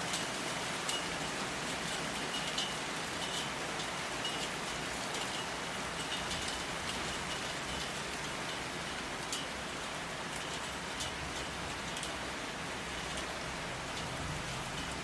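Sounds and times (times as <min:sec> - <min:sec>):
raindrops clicking on surface: 0:00.0 - 0:15.0
steady rain hiss: 0:00.0 - 0:15.0.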